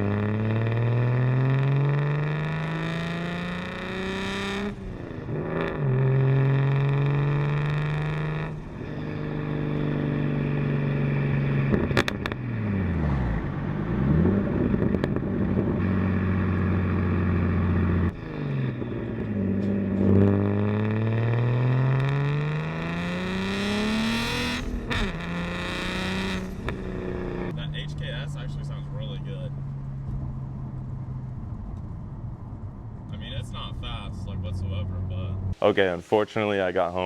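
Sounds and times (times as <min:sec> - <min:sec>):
car engine accelerating: 0:00.0 - 0:35.6.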